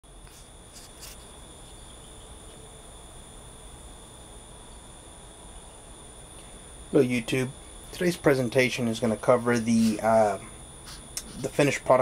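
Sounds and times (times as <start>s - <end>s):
low hum and hiss: 0.0s - 12.0s
high-pitched whine: 0.1s - 12.0s.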